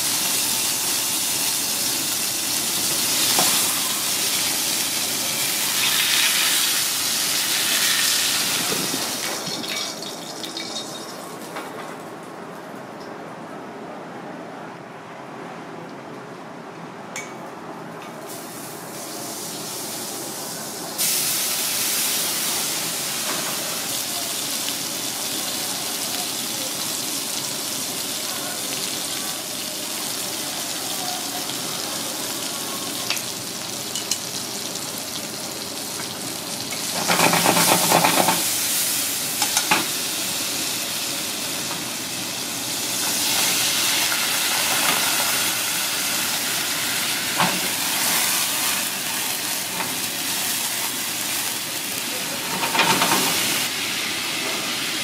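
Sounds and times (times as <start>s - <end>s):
food sizzling in hot oil: 0.0s - 11.4s, 18.3s - 55.0s.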